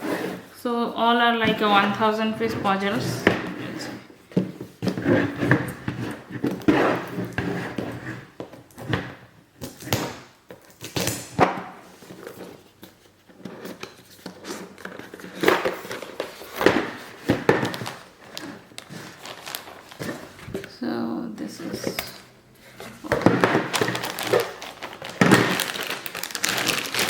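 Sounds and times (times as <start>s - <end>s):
cardboard box rustling and scraping: 0.0s - 0.5s, 1.4s - 8.5s, 11.9s - 20.7s, 21.6s - 27.0s.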